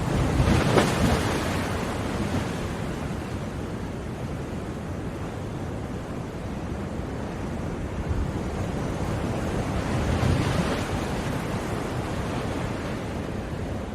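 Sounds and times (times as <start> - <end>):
sea waves breaking: 0.0 - 13.9.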